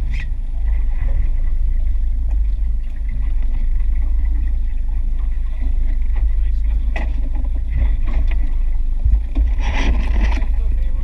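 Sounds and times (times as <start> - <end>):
boat motor running: 0.0 - 11.0
wind buffeting microphone: 0.0 - 11.0.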